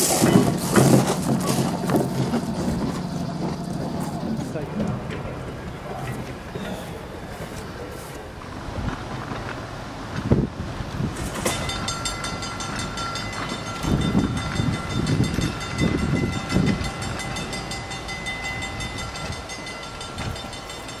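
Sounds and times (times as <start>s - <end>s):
wheels thumping over rail joints: 0.0s - 6.8s, 8.4s - 21.0s
train car high whine: 0.0s - 21.0s.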